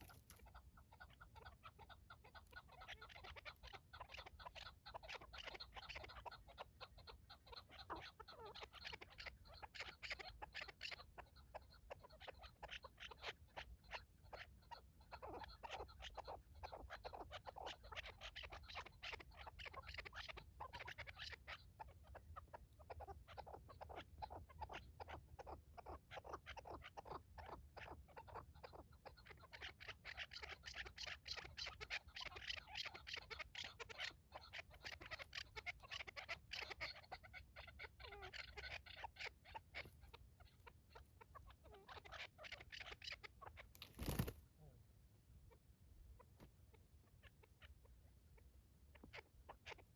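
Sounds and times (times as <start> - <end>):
partridge calling: 0.0 - 44.4, 46.2 - 49.9.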